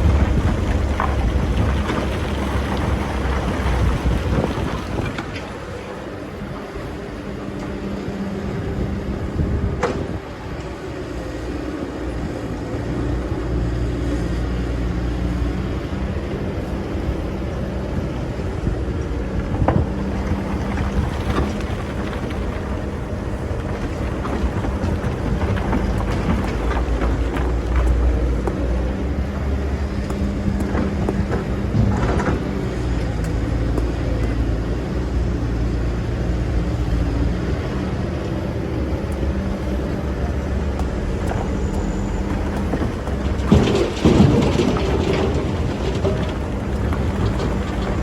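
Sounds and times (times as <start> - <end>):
excavator diesel engine under load: 0.0 - 48.0.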